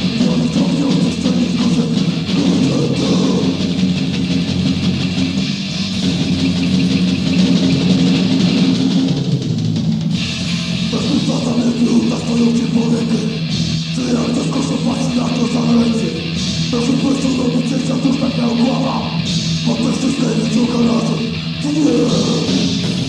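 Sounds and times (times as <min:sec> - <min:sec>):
distorted electric guitar riffing: 0:00.0 - 0:23.0
drum kit: 0:00.0 - 0:23.0.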